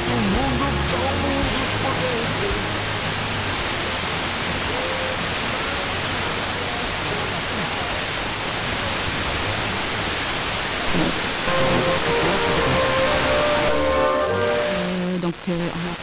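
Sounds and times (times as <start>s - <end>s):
faint radio programme audio: 0.0s - 16.0s
radio static hiss: 0.0s - 16.0s.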